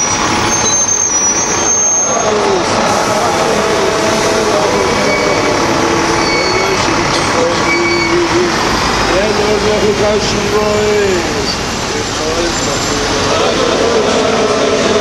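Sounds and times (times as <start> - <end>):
men chanting a prayer: 2.0 - 15.0.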